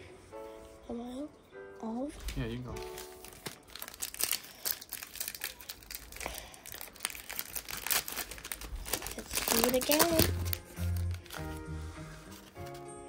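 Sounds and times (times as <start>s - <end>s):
plastic wrapper crinkling and tearing: 2.2s - 12.8s.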